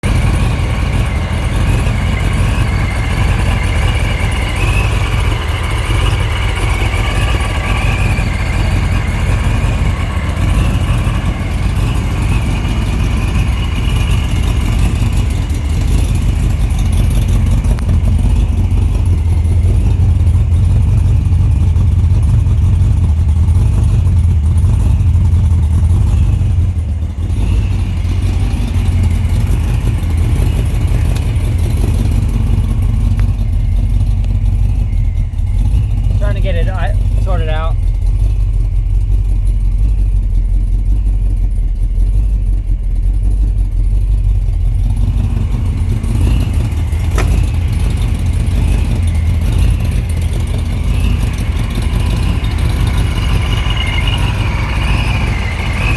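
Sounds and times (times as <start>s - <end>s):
engine idling with deep rumble: 0.0s - 55.9s
high wavering supercharger whine: 0.0s - 55.9s.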